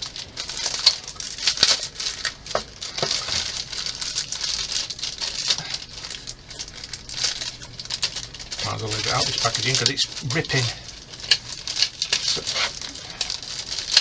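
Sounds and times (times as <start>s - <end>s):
plastic bag crinkling and tearing: 0.0s - 14.0s.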